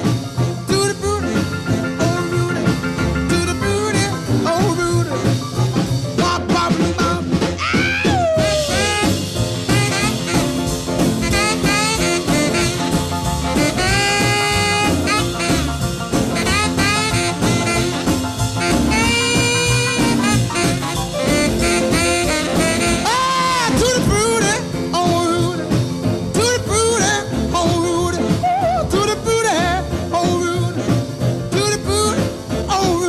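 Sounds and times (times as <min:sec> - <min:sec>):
rock and roll saxophone music: 0:00.0 - 0:33.0.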